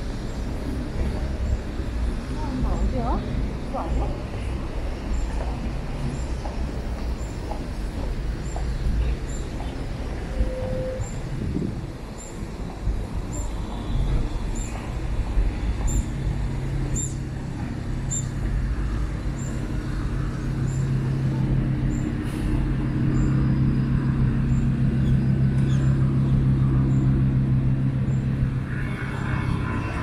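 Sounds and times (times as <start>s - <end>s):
large vehicle engine humming: 0.0s - 30.0s
street traffic: 0.0s - 30.0s.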